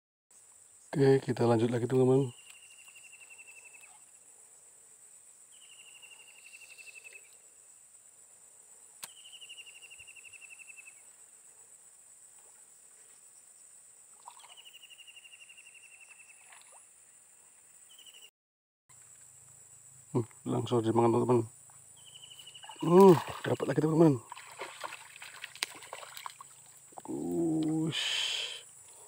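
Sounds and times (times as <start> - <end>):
insect chorus trilling: 0.4 - 18.3, 18.9 - 29.0.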